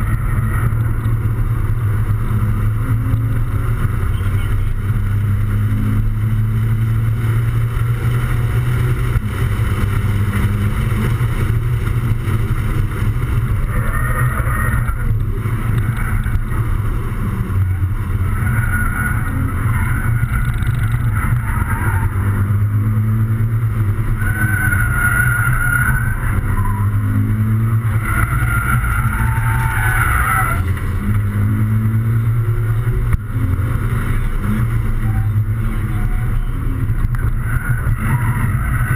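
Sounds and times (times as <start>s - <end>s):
car engine droning under load: 0.0s - 38.9s.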